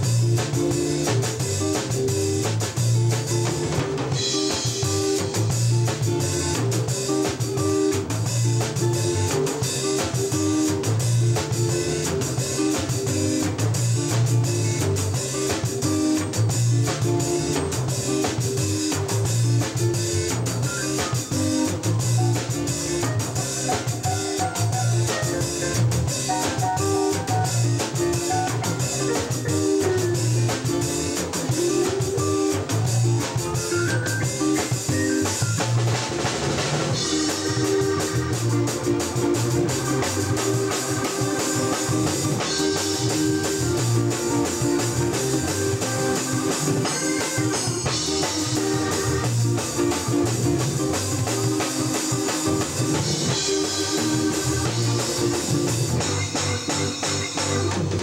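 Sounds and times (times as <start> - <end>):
bass line: 0.0 - 58.0
drum kit and cymbals: 0.0 - 58.0
guitars: 0.0 - 58.0.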